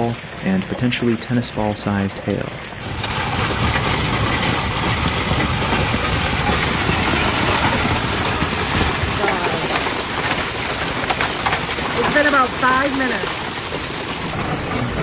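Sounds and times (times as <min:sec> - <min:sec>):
heavy rain drumming: 0:00.0 - 0:15.0
deep thunder rumble: 0:02.5 - 0:15.0.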